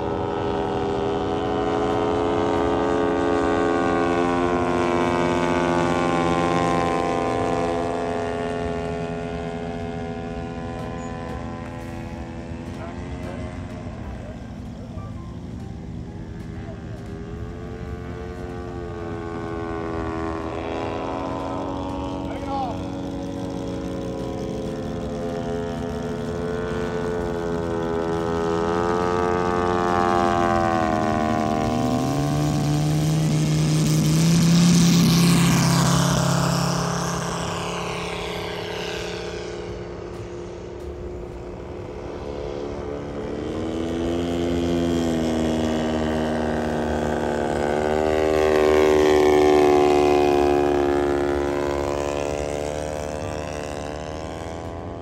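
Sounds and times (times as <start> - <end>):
propeller plane engine: 0.0 - 55.0.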